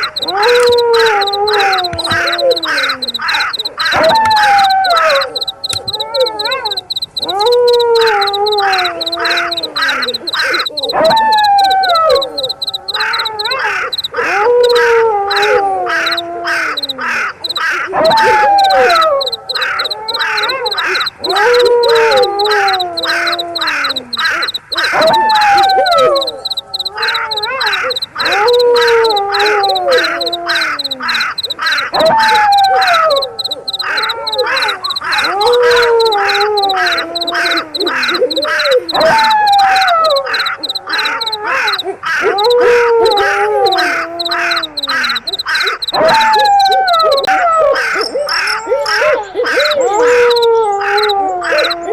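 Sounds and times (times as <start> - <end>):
high insect trill: 0.0 - 51.9
rapid harsh animal calls: 0.0 - 51.9
wolf howling: 0.0 - 51.9.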